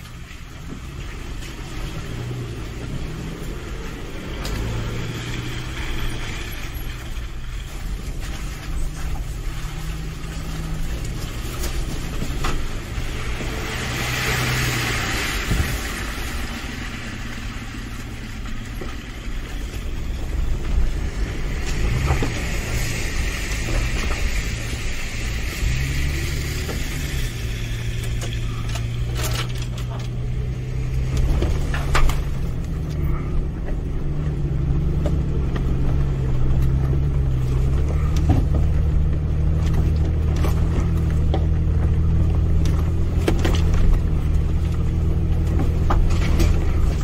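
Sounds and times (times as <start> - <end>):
car engine at low revs: 0.0 - 47.0
tyres on gravel: 0.0 - 47.0.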